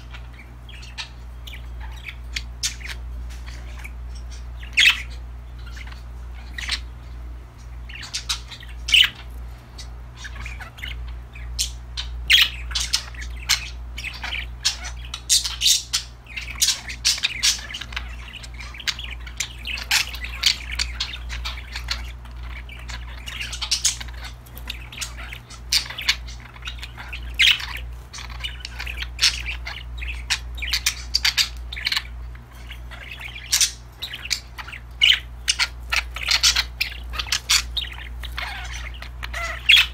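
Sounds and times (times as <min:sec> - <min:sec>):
budgerigars chirping and squawking: 0:00.0 - 0:39.9
steady low hum: 0:00.0 - 0:39.9.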